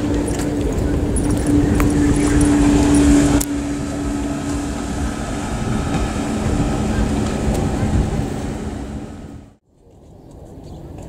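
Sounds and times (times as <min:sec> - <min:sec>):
outboard engine at speed: 0:00.0 - 0:09.6
wind on microphone: 0:00.0 - 0:11.0.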